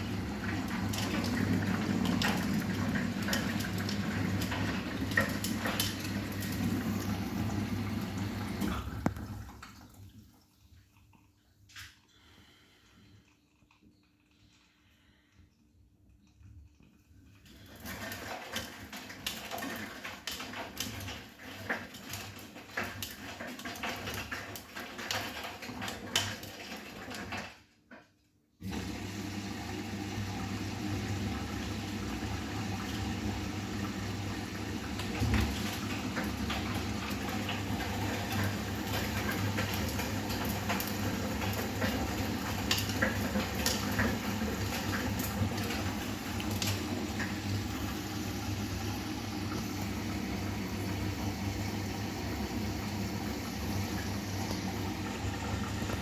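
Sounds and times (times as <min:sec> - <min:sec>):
water filling washing machine: 0:00.0 - 0:56.0.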